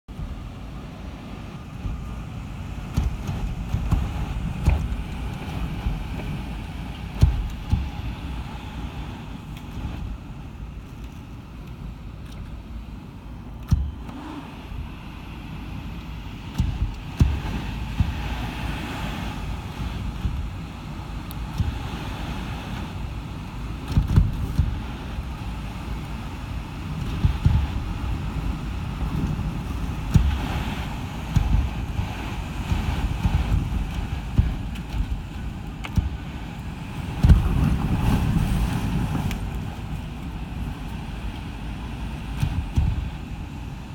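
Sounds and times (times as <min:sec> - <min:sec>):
wind gust thumps: 0:00.1 - 0:12.8, 0:13.5 - 0:43.9
strong wind buffeting microphone: 0:00.1 - 0:43.9.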